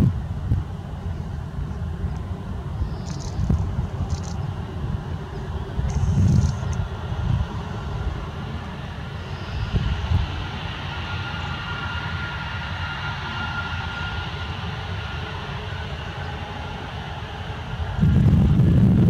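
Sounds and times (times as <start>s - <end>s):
jet engines rushing: 0.0s - 19.0s
thin high engine whine: 0.0s - 19.0s.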